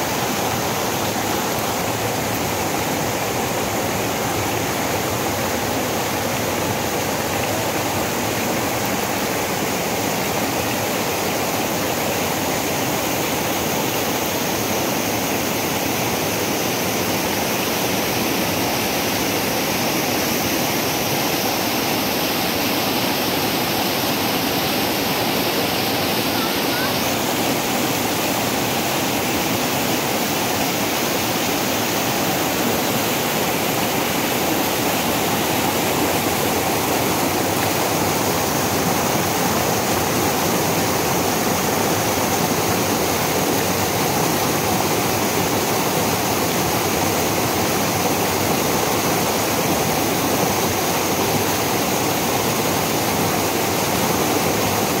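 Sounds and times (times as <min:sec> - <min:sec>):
water cascading over boulders: 0:00.0 - 0:55.0.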